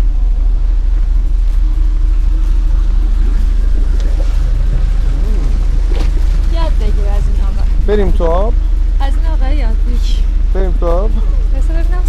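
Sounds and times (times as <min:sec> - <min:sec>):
ship engines rumbling: 0:00.0 - 0:12.0.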